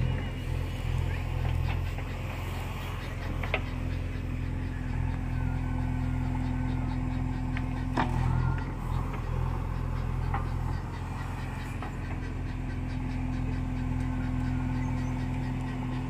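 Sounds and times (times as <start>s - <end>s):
backhoe diesel engine running: 0.0s - 16.0s
steady whine: 0.0s - 16.0s.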